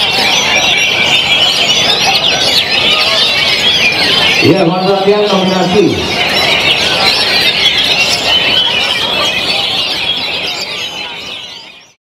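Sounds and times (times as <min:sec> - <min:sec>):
chorus of songbirds singing: 0:00.0 - 0:12.0.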